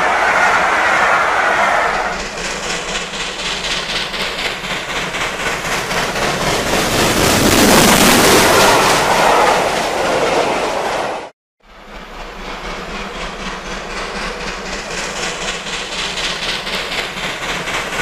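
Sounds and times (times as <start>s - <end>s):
steam locomotive exhaust beat: 0.0s - 18.0s
train coaches passing: 0.0s - 18.0s.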